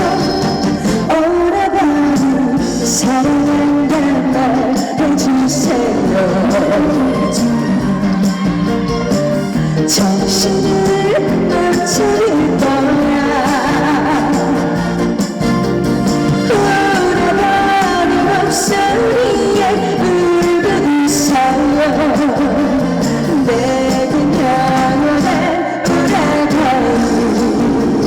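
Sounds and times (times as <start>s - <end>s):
woman singing through pa: 0.0s - 15.3s, 16.4s - 28.0s
instrumental accompaniment: 0.0s - 28.0s.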